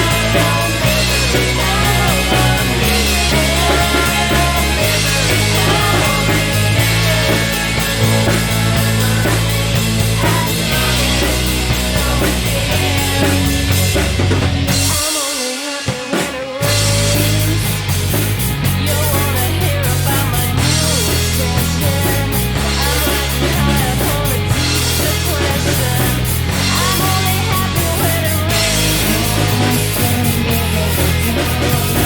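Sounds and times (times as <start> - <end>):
bending lead guitar lines: 0.0 - 15.0, 16.6 - 32.0
bass guitar: 0.0 - 15.4, 16.5 - 32.0
drum kit: 0.0 - 32.0
instrumental rock band: 0.0 - 32.0.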